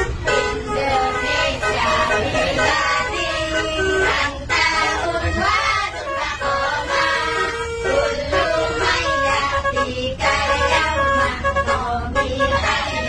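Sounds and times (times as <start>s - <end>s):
women singing in chorus: 0.1s - 13.0s.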